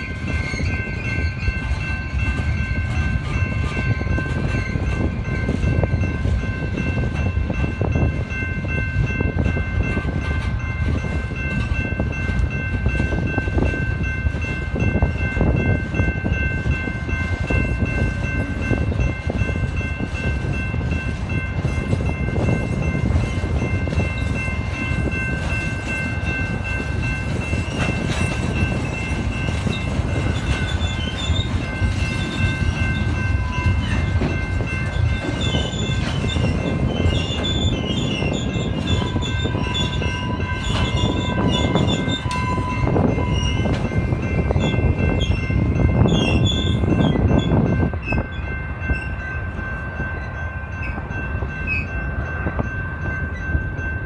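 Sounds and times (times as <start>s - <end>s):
crossing signal ringing: 0.0s - 54.0s
train wheels rumbling and clacking: 0.0s - 54.0s
wind buffeting microphone: 0.0s - 54.0s.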